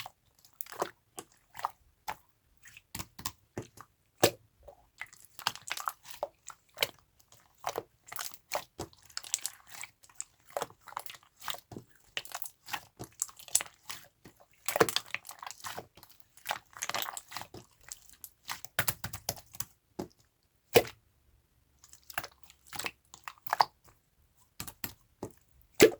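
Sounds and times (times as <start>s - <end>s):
close-up crunching and squishing: 0.0s - 19.8s, 24.5s - 25.9s.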